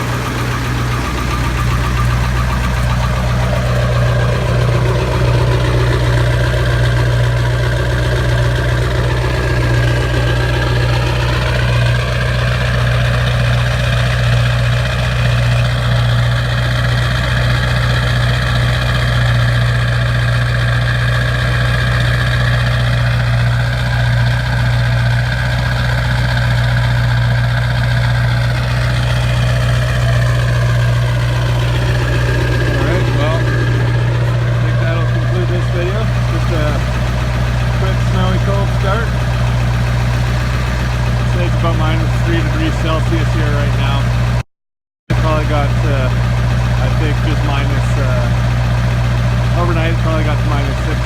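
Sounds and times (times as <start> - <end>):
diesel engine idling: 0.0 - 44.5, 45.1 - 51.0
engine whine: 0.0 - 44.5, 45.1 - 51.0.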